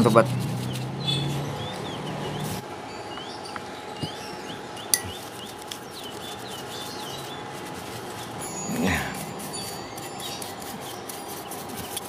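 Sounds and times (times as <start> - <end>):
small bird chirping: 0.6 - 12.0.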